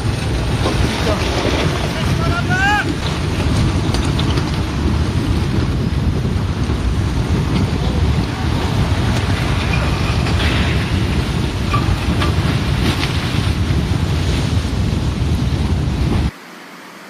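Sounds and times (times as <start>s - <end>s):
wind buffeting microphone: 0.0s - 16.4s
mudslide rumbling rush: 0.0s - 17.0s.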